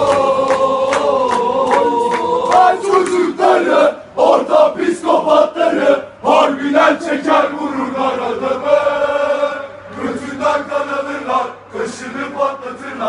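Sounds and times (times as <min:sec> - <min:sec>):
crowd chanting in unison: 0:00.0 - 0:13.0.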